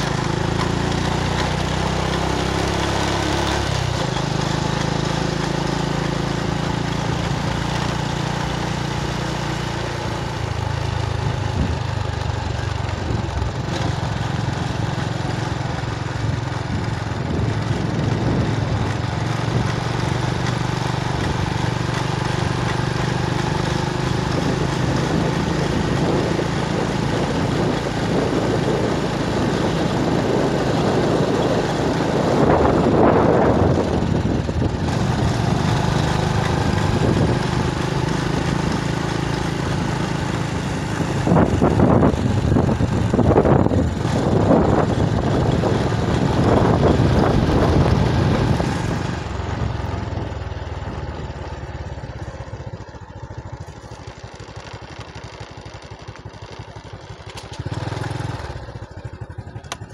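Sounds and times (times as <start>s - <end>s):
motorbike engine running: 0.0s - 59.9s
wind and road noise: 0.0s - 59.9s.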